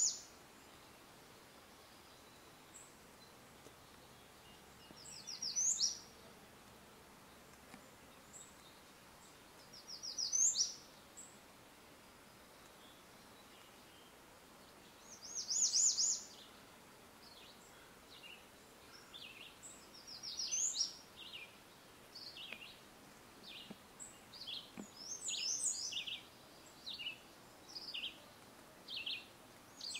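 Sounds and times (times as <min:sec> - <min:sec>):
faint steady hiss: 0:00.0 - 0:29.9
songbirds chirping and singing: 0:01.8 - 0:06.2, 0:07.7 - 0:11.4, 0:12.6 - 0:29.9.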